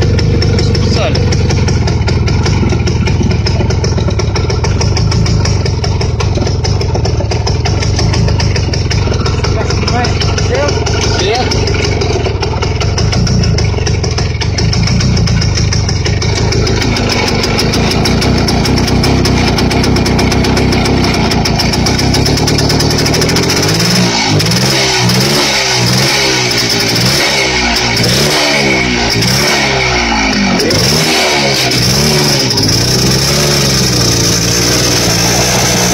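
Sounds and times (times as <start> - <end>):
two-stroke motorcycle engine revving: 0.0 - 35.9.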